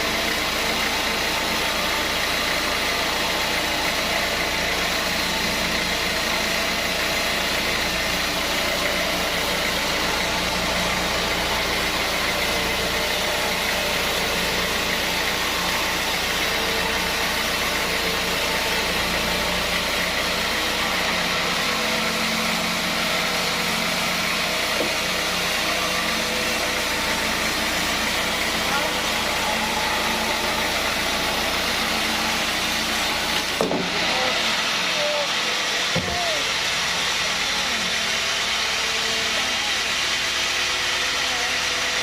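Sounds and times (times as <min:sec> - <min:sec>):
sawmill machinery drone: 0:00.0 - 0:42.0.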